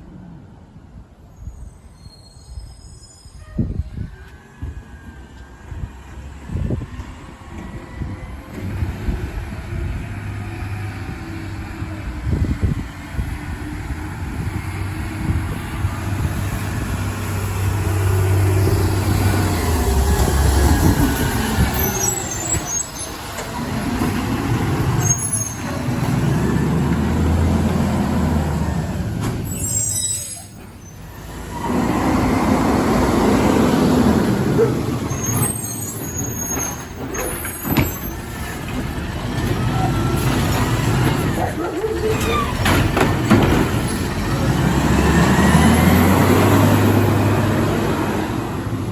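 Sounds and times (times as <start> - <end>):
diesel engine droning: 4.5 - 48.9.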